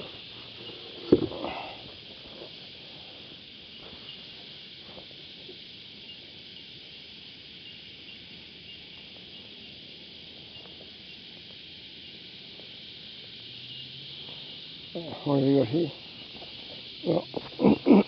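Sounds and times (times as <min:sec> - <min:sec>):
cicadas singing: 0:00.0 - 0:18.0.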